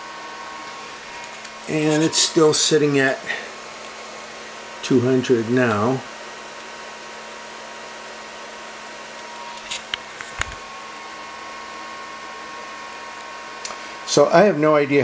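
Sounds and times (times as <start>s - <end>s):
cooling fans whirring: 0.0s - 15.0s
faint steady hum: 0.0s - 15.0s.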